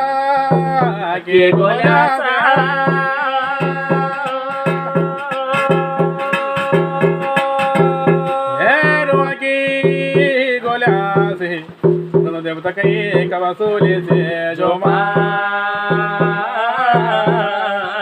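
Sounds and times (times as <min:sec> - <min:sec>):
steady drum beat: 0:00.0 - 0:17.6
person singing: 0:00.0 - 0:18.0.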